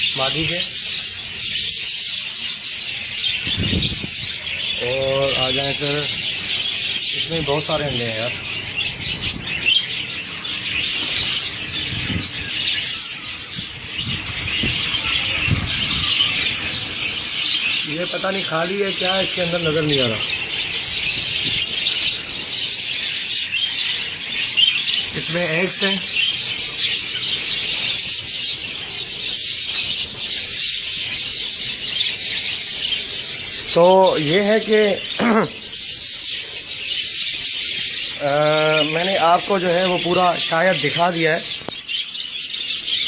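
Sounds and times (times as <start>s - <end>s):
budgerigars chattering: 0.0s - 43.0s.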